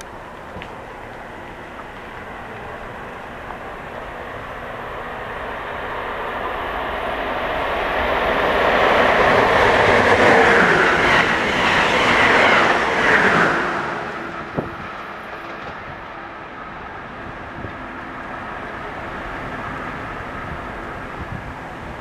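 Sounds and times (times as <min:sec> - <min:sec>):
passenger train passing fast: 0:00.0 - 0:22.0.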